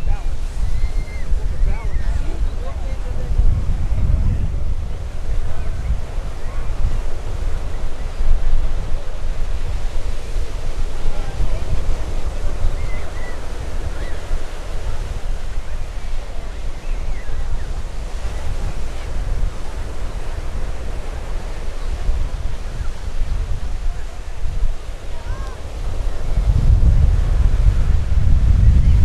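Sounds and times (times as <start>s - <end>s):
faint voices of people: 0.0s - 29.0s
wind buffeting microphone: 0.0s - 29.0s.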